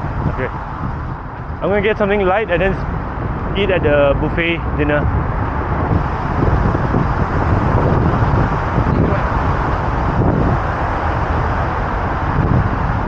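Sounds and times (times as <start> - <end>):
traffic rumbling on a bridge: 0.0 - 13.0
wind buffeting microphone: 0.0 - 13.0.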